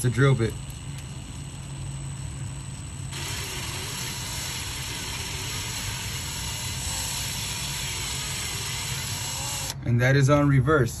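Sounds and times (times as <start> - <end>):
cordless drill running: 0.0 - 9.8.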